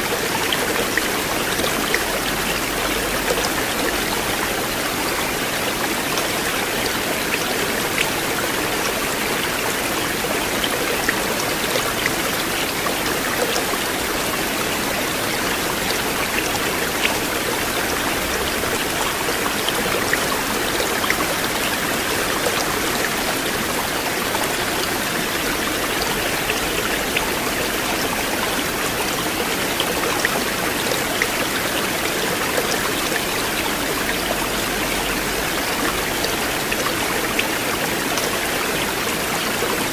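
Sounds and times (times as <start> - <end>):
river water flowing over stones: 0.0 - 39.9
water splashes and drips: 0.0 - 39.9.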